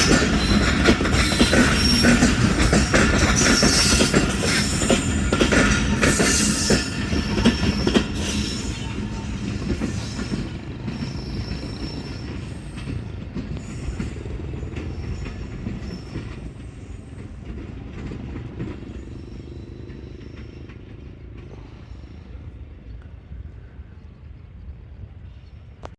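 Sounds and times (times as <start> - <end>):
wheel squeals: 0.0 - 22.2
train wheels clattering: 0.0 - 23.0.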